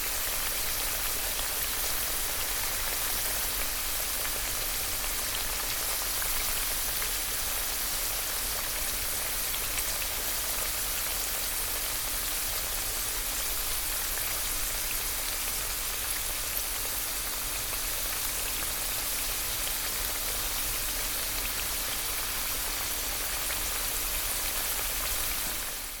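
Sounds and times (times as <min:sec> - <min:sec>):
hot oil sizzling: 0:00.0 - 0:26.0.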